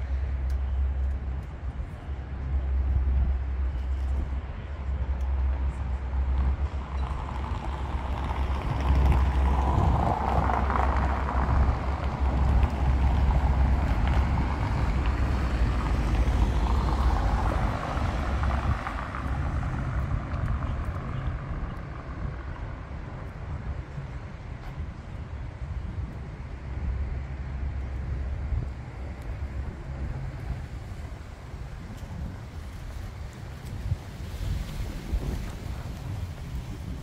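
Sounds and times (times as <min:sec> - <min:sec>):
road traffic passing: 0:00.0 - 0:37.0
wind rumble on microphone: 0:00.0 - 0:37.0.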